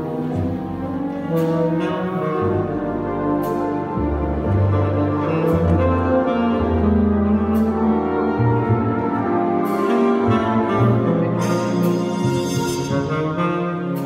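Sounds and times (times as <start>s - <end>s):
jazz big band playing: 0.0s - 14.0s.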